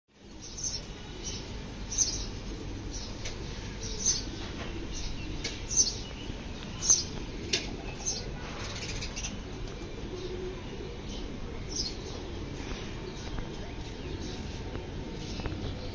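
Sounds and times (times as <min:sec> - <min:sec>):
sparrow chirping: 0:00.3 - 0:09.5, 0:10.1 - 0:15.9.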